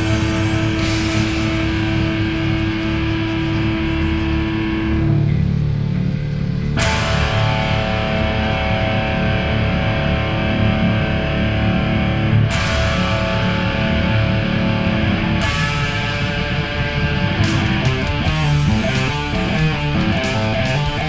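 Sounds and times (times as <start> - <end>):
heavy rock guitar chords: 0.0 - 21.0.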